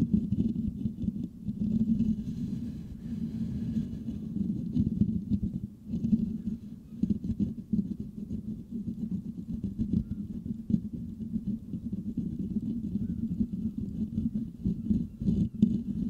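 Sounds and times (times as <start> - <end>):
fingertips scratching microphone grille: 0.0 - 16.0.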